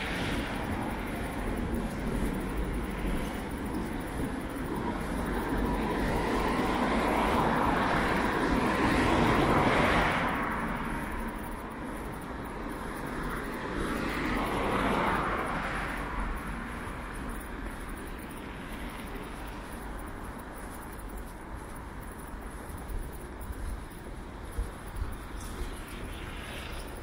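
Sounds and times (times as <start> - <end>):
cars driving past: 0.0 - 27.0
steady traffic hum: 0.0 - 27.0.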